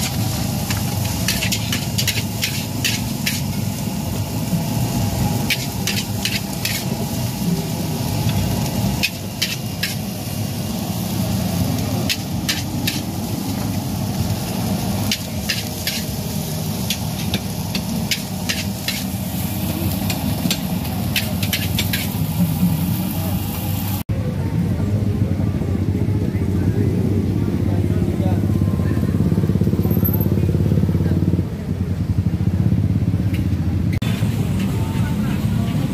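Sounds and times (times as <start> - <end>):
frying rush: 0.0 - 35.9.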